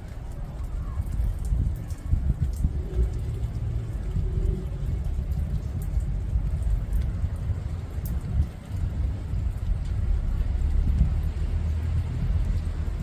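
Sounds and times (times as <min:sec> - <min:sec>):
rain on leaves: 0:00.0 - 0:13.0
steady low rumble: 0:00.0 - 0:13.0.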